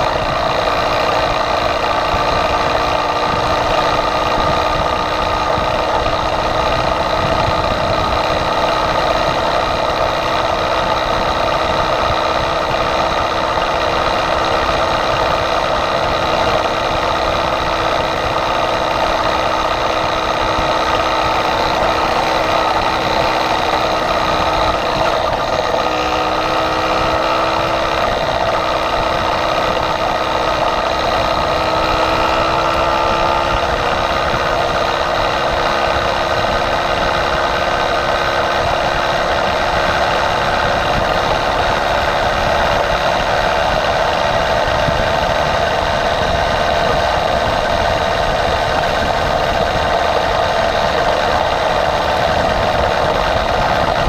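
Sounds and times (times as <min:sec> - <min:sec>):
small engine running at speed: 0:00.0 - 0:54.0
wind and road noise: 0:00.0 - 0:54.0.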